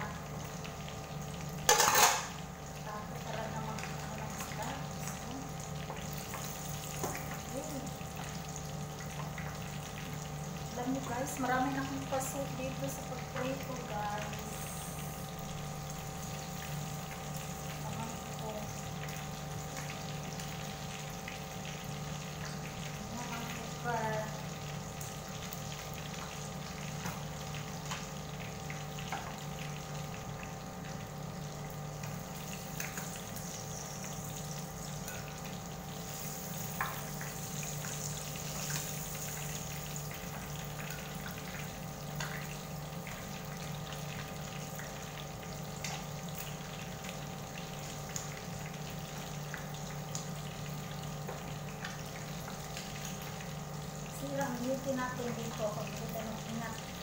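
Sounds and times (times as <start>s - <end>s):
constant low hum: 0.0s - 57.0s
fish sizzling in a pan: 0.0s - 57.0s
oil crackling and popping: 0.0s - 57.0s.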